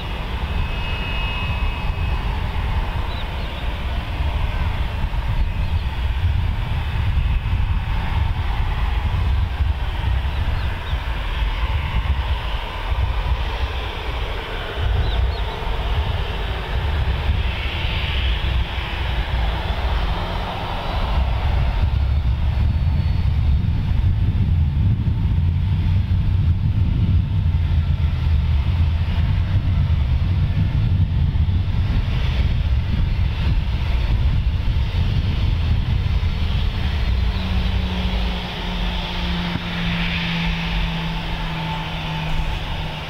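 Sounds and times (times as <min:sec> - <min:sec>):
jet engines rumbling at low power: 0:00.0 - 0:43.0.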